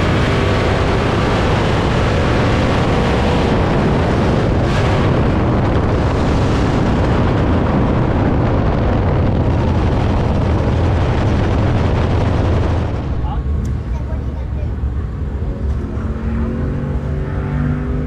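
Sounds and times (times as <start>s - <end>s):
loud racing car engine: 0.0s - 18.0s.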